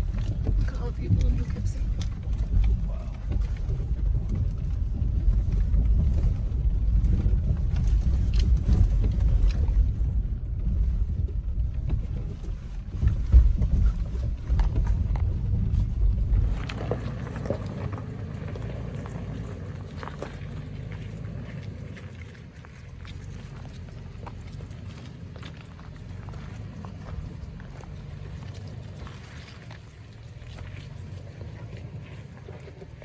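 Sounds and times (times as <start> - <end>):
off-road vehicle engine rumble: 0.0 - 33.0.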